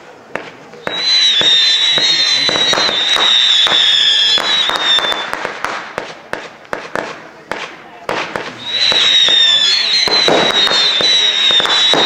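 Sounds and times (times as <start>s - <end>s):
firework cracks and pops: 0.0s - 12.0s
whistling firework: 0.4s - 12.0s.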